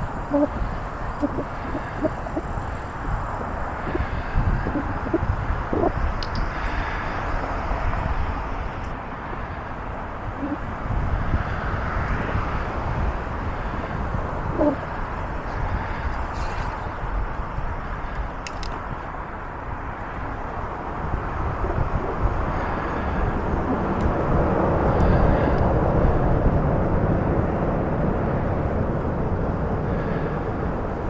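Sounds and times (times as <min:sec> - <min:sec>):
bicycle tyre noise: 0:00.0 - 0:31.0
wind rush: 0:00.0 - 0:31.0.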